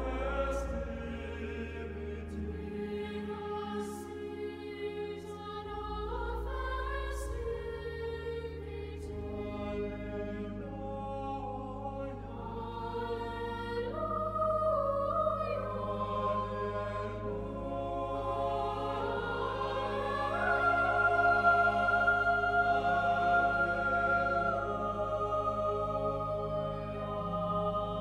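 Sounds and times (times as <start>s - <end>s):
choir singing held chords: 0.0s - 28.0s.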